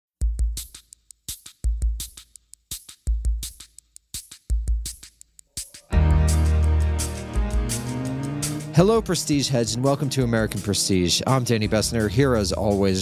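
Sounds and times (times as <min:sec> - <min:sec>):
drum machine beat: 0:00.2 - 0:13.0.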